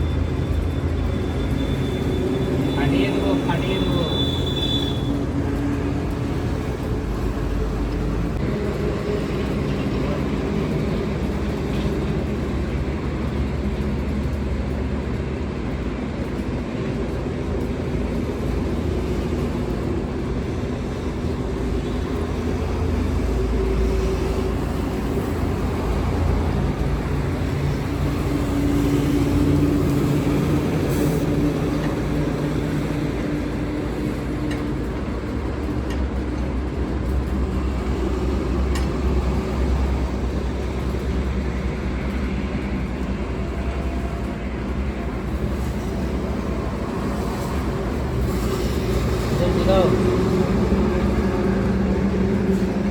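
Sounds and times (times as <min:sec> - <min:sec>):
low engine rumble: 0:00.0 - 0:52.9.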